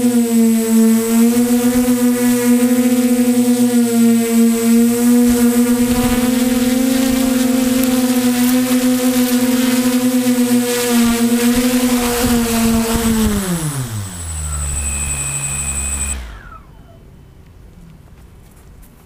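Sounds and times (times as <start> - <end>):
electronic buzzing music: 0.0 - 17.1
faint outdoor background: 0.0 - 19.0.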